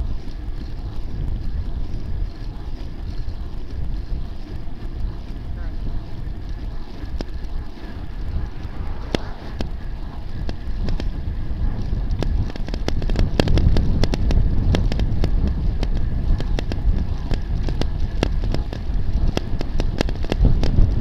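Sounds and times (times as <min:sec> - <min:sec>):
low road rumble: 0:00.0 - 0:21.0
sharp irregular clicks: 0:00.0 - 0:21.0
wind rushing over microphone: 0:00.0 - 0:21.0.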